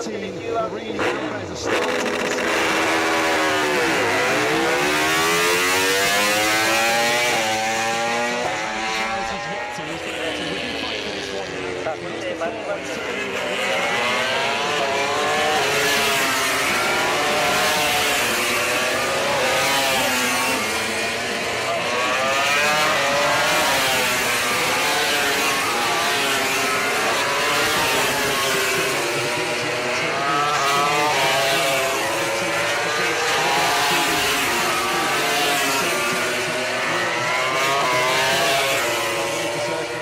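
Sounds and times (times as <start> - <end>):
racing motorcycle engines revving: 0.0 - 40.0.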